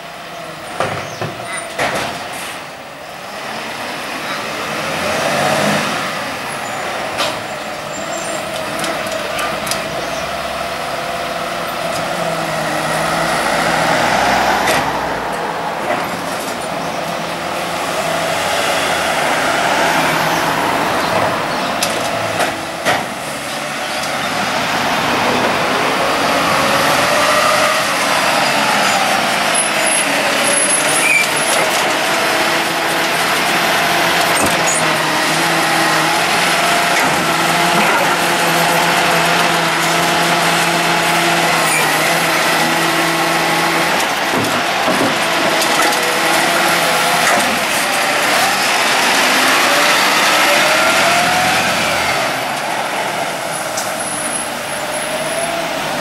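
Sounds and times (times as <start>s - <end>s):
garbage truck engine and hydraulics: 0.0s - 56.0s.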